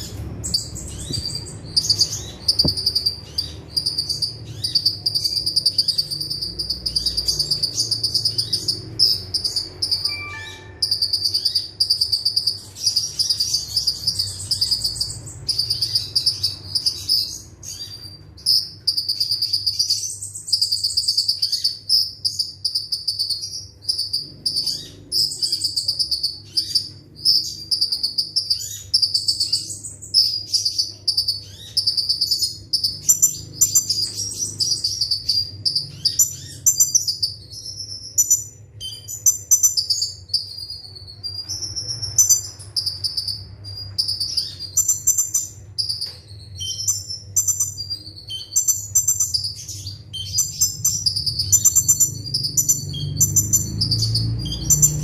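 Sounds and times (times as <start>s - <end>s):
bird chirps and trills: 0.0s - 55.0s.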